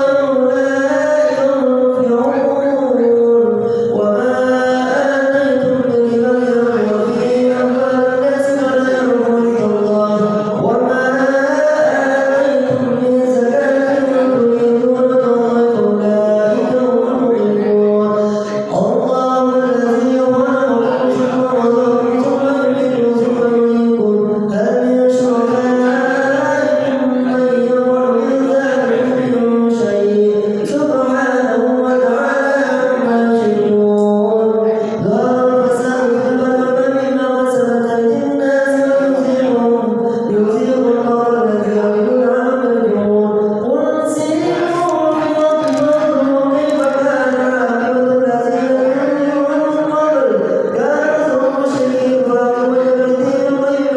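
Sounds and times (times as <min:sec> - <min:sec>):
man singing devotional chant: 0:00.0 - 0:53.9.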